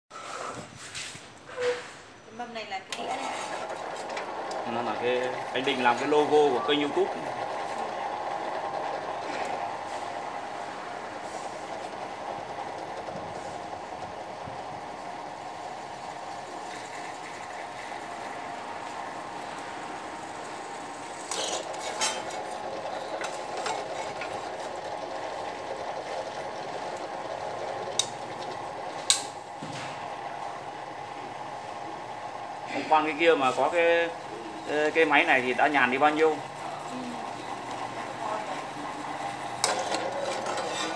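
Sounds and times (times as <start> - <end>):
drill press motor running: 2.9 - 40.9.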